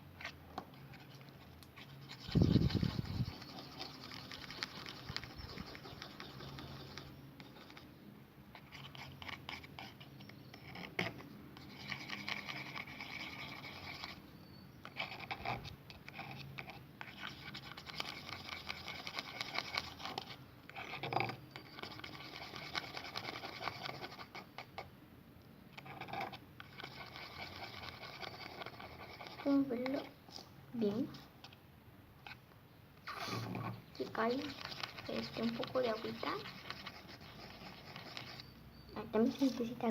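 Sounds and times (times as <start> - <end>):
utensil scraping in small container: 0.2 - 7.9, 8.6 - 14.2, 14.8 - 24.8, 25.8 - 31.6, 33.1 - 38.5.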